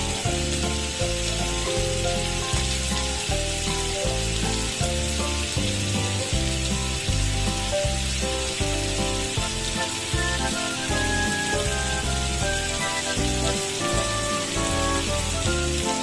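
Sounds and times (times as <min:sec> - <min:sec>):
food sizzling on hot plate: 0:00.0 - 0:16.0.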